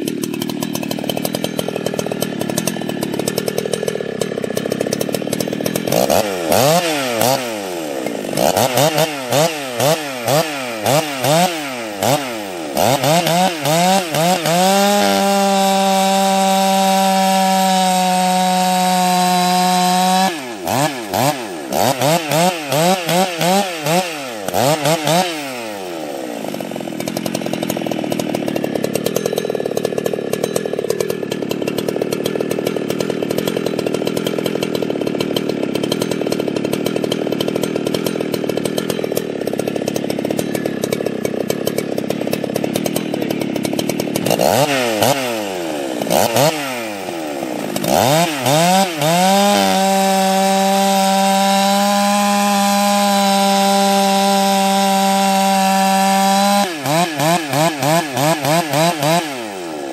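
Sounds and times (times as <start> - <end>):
chainsaw revving and cutting wood: 0.0 - 59.9.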